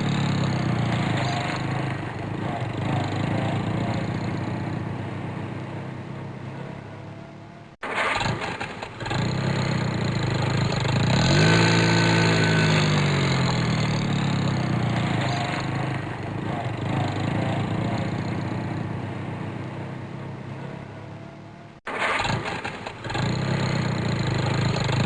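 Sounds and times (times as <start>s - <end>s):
car engine starting and revving: 0.0s - 6.9s, 7.8s - 25.0s.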